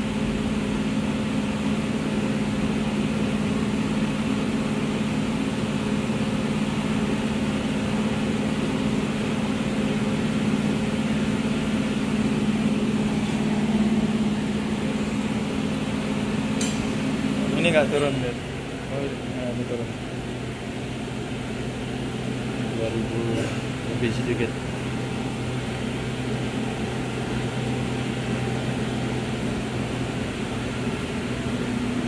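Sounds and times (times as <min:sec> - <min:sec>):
car engine at fast idle: 0:00.0 - 0:32.0.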